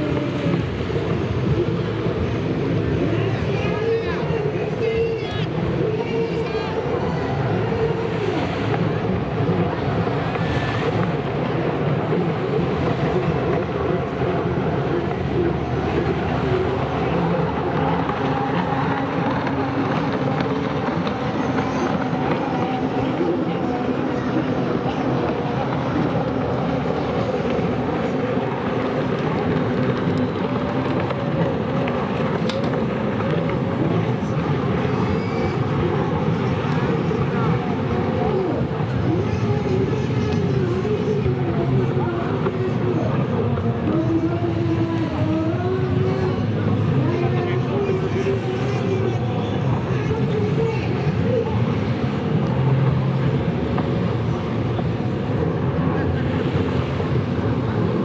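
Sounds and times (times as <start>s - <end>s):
wind on microphone: 0.0s - 58.0s
jet ski engines at speed: 5.4s - 58.0s.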